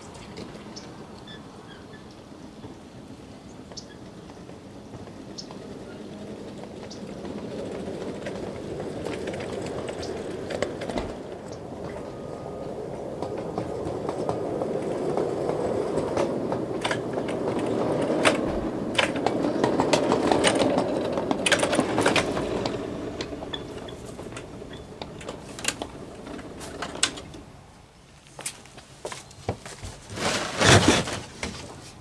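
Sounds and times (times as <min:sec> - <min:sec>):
train wheels rumbling on rails: 0:00.0 - 0:27.9.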